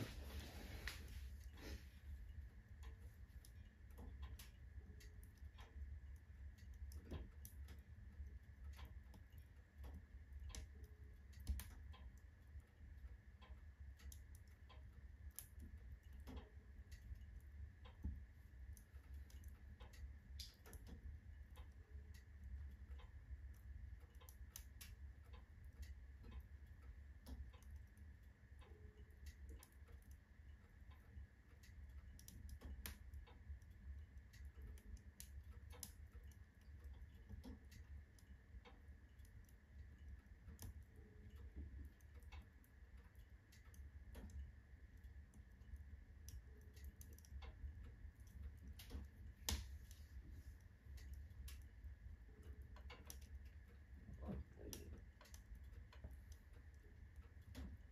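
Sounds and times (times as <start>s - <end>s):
low steady rumble: 0.0s - 57.9s
wood stove ticking and cracking: 0.0s - 57.9s.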